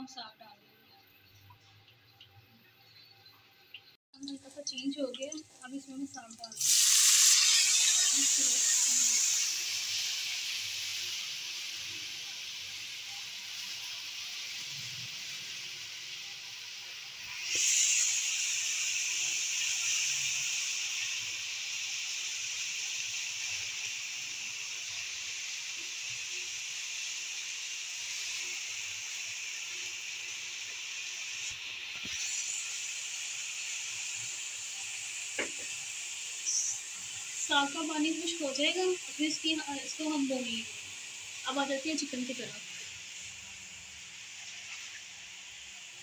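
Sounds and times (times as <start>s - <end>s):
greens sizzling in hot oil: 0.0s - 46.0s.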